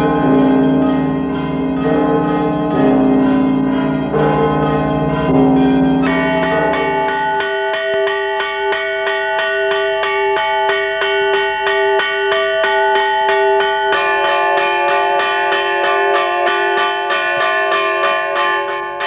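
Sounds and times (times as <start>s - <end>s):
church bells rung by hand: 0.0s - 19.0s.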